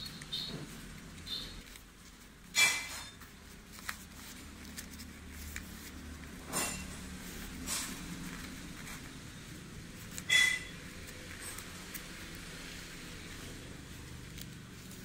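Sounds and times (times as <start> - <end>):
paper being creased by hand: 0.0 - 15.0
sharp paper rustles: 0.0 - 15.0.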